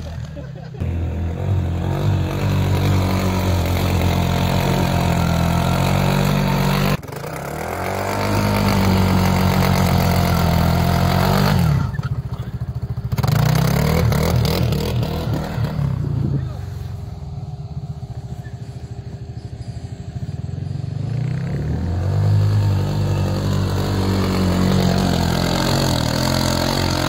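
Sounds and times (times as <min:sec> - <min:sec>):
utility vehicle engine revving: 0:00.0 - 0:27.0.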